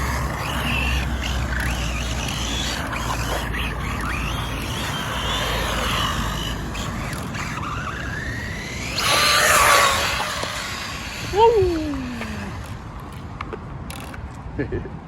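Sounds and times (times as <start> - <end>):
rc car electric motor whining: 0.0 - 14.2.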